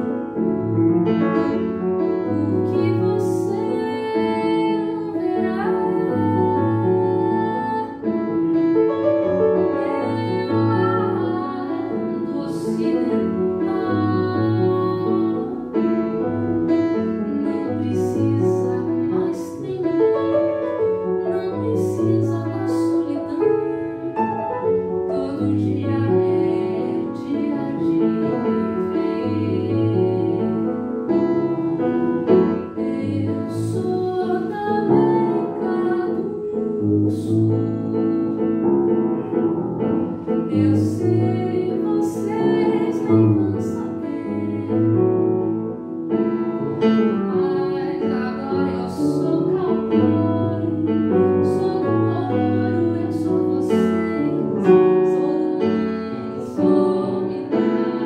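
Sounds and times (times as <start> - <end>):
upright piano playing chords: 0.0 - 58.0
woman singing: 1.4 - 38.7, 40.2 - 58.0.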